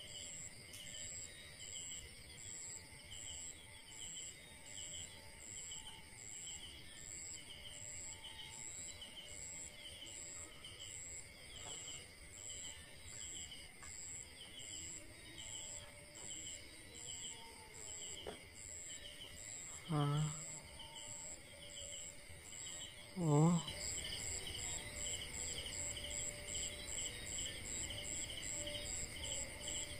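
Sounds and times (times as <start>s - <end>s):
insects chirping: 0.0s - 29.9s
low insect trill: 0.0s - 29.9s.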